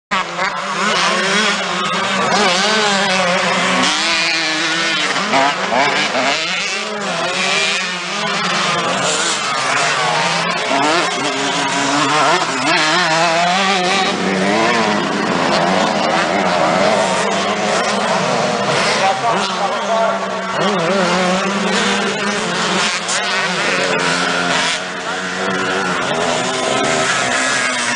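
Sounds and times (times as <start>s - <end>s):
motocross bikes revving: 0.1s - 27.9s.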